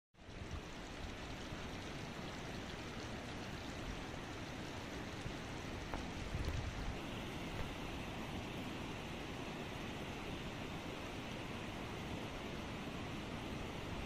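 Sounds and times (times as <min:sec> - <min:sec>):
floodwater rushing: 0:00.2 - 0:14.0.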